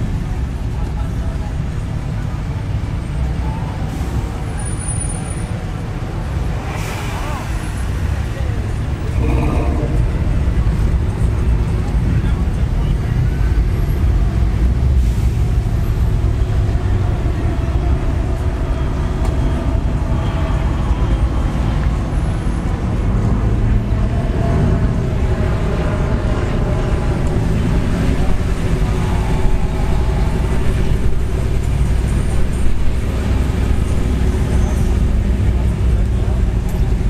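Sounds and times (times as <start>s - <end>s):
faint voices: 0.0s - 37.0s
traffic engines rumbling: 0.0s - 37.0s.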